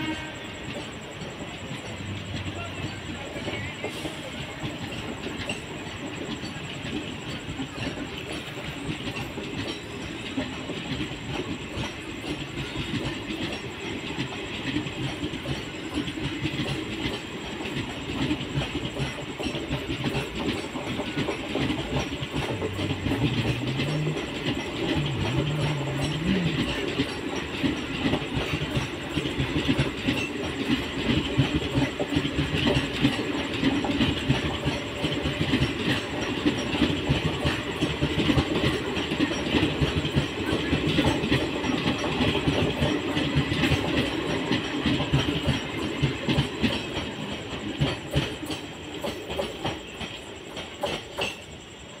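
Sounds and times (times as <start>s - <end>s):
train wheels clattering over rail joints: 0.0s - 52.0s.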